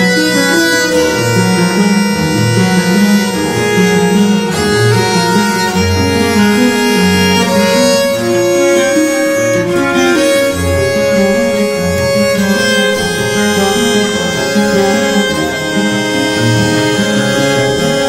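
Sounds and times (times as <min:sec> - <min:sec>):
repeating low notes: 0:00.0 - 0:18.0
violin holding long notes: 0:00.0 - 0:18.0.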